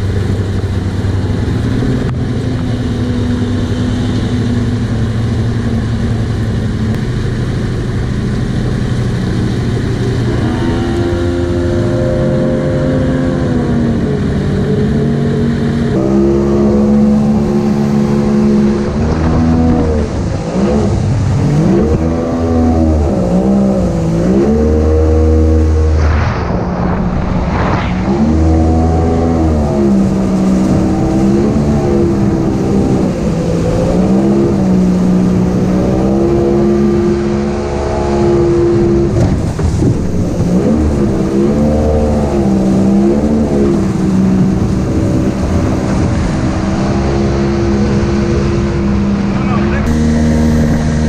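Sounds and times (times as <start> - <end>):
jet boat engine revving: 0.0 - 51.0
rushing noise: 0.0 - 51.0.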